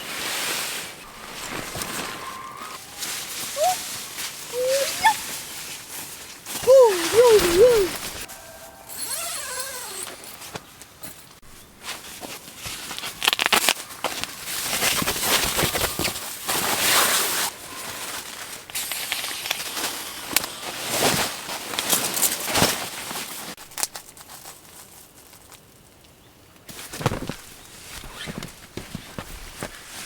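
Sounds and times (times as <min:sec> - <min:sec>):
crinkly material rustling: 0:00.0 - 0:10.8, 0:11.4 - 0:25.9, 0:26.7 - 0:30.0.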